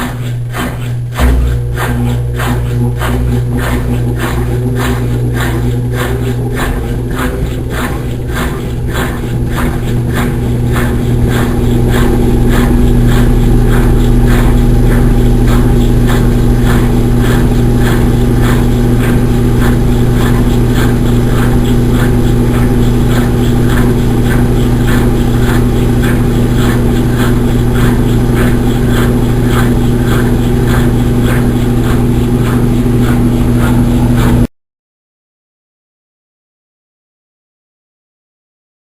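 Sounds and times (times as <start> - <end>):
washing machine motor hum: 0.0 - 34.5.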